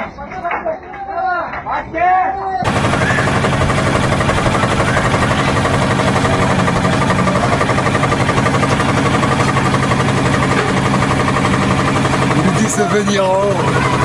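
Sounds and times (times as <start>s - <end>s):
engine running with pulsing beat: 2.6s - 14.0s.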